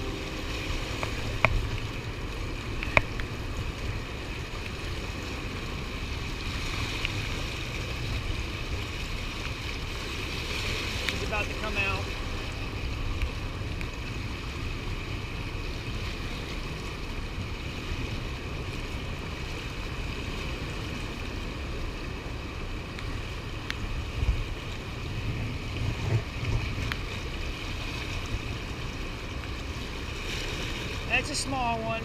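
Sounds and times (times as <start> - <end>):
gusty wind buffeting microphone: 0.0 - 30.0
river water rushing: 0.0 - 32.0.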